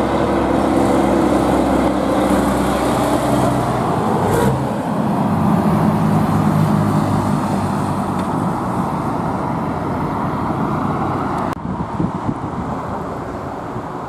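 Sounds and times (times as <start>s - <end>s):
vehicle engine passing: 0.0s - 11.6s
rush of tyres and traffic: 0.0s - 14.0s.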